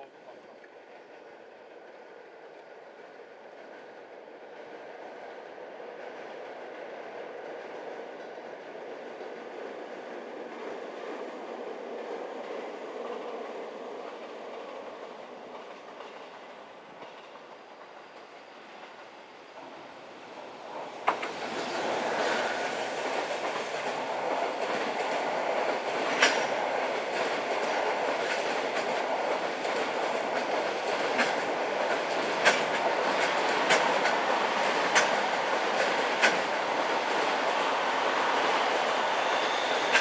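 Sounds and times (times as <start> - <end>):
electric train passing: 0.6 - 40.0.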